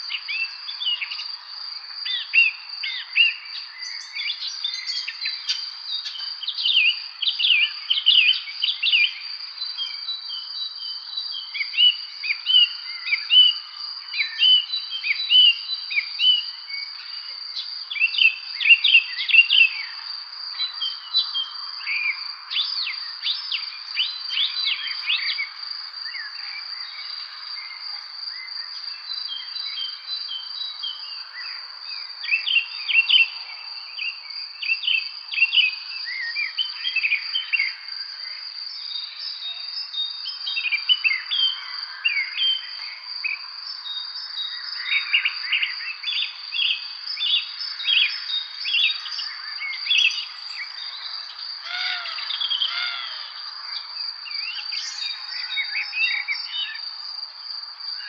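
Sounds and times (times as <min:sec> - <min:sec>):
songbirds chirping and singing: 0:00.0 - 0:58.0
high-pitched insect trill: 0:00.1 - 0:58.0.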